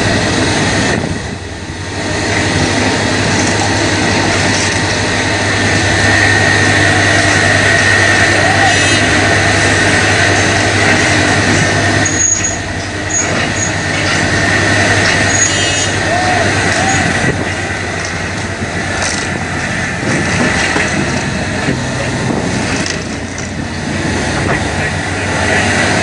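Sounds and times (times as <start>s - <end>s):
excavator engine hum: 0.0s - 26.0s
hydraulic whine: 0.0s - 26.0s.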